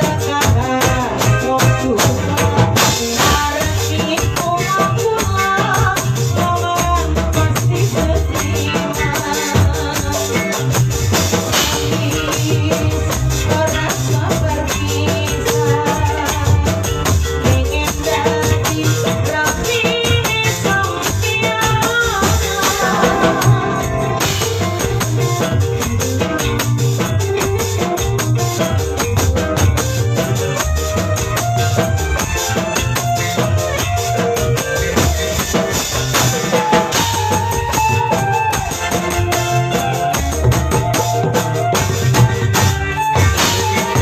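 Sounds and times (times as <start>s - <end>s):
band music with drum kit: 0.0s - 44.0s.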